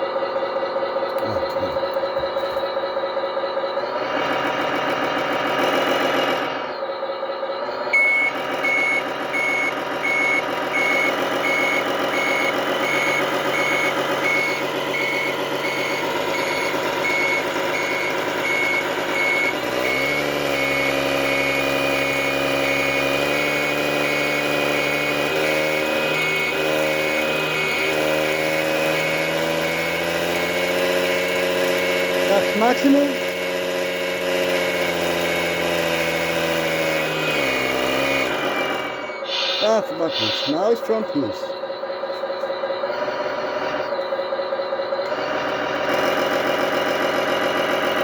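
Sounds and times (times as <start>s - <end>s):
reversing alarm beeping: 0.0s - 48.0s
simulated diesel engine sound: 0.0s - 48.0s.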